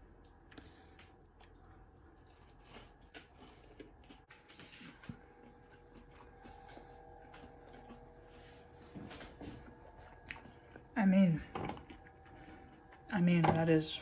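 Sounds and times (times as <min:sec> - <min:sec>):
faint crunchy chewing: 0:00.0 - 0:13.7.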